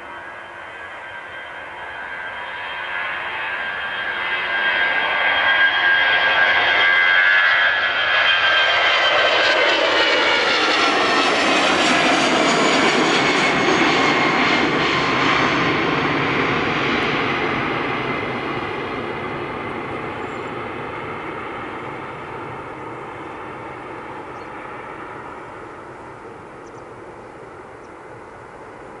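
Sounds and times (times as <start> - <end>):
jet airliner climbing rumble: 0.0 - 29.0
jet engines high-pitched whine: 0.0 - 29.0.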